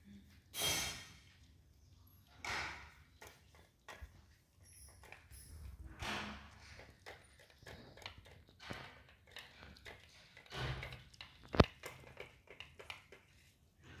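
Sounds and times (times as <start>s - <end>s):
kittens chewing: 1.1s - 14.0s.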